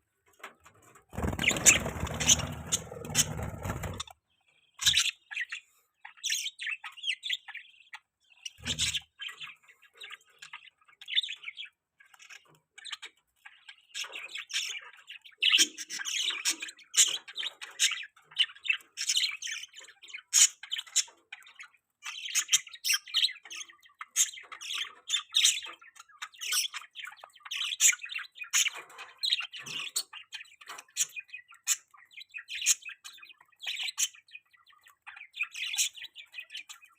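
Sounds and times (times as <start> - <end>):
budgerigars chirping and chattering: 1.2 - 36.9.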